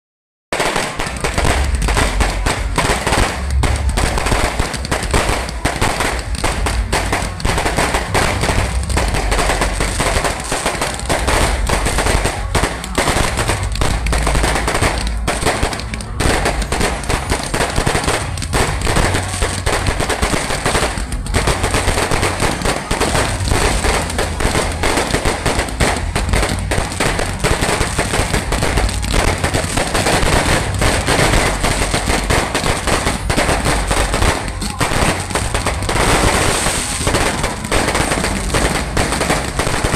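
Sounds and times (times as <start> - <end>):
fireworks bangs and crackles: 0.5 - 39.9.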